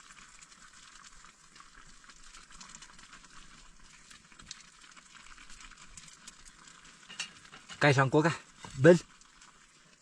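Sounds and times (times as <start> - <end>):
noodles sizzling and bubbling in pot: 0.0 - 10.0.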